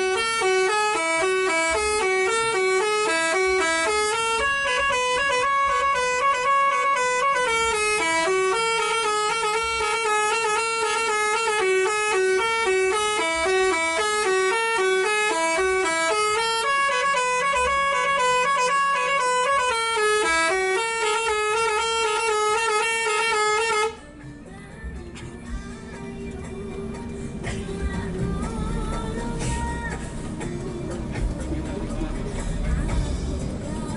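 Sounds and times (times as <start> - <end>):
musical bus horn tune: 0.0 - 33.9.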